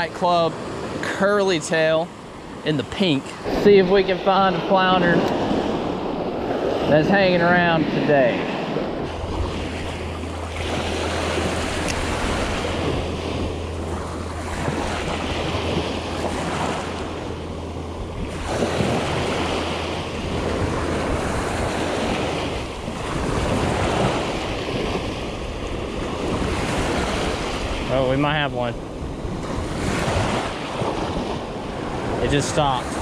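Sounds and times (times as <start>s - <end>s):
small waves breaking on sand: 0.0s - 33.0s
wind buffeting microphone: 0.0s - 33.0s.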